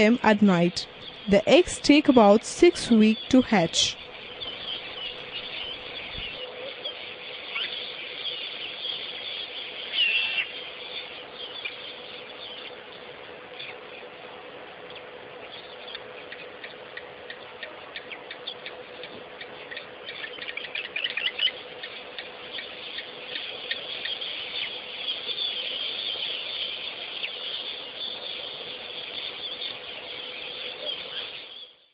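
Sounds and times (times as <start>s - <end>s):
birds chirping: 0.0s - 14.2s, 14.8s - 31.9s
faint steady hum: 0.0s - 31.9s.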